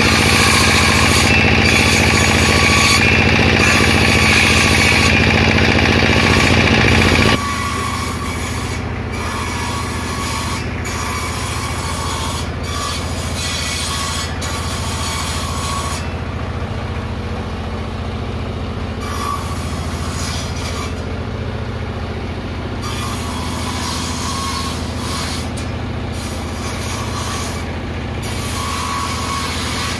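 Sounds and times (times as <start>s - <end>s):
sawmill machine droning: 0.0s - 29.9s.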